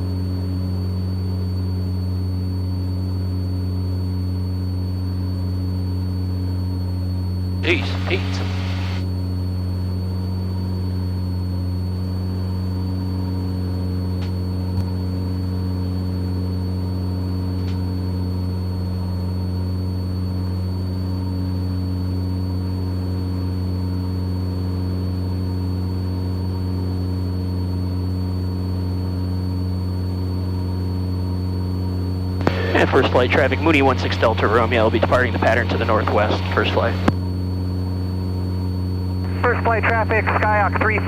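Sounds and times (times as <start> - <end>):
faint high whine: 0.0 - 41.0
propeller plane engine drone: 0.0 - 41.0.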